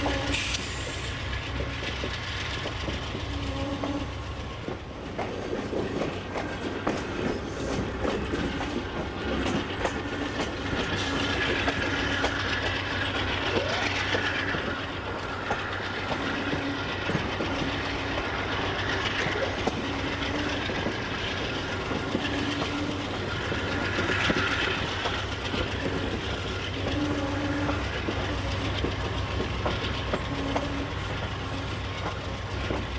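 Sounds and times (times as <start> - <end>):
train rumble: 0.0 - 32.9
wheels clicking and clacking: 1.4 - 32.9.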